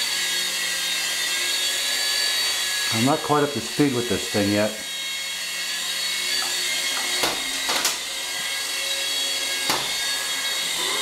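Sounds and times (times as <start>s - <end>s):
toy helicopter rotors whining: 0.0s - 11.0s.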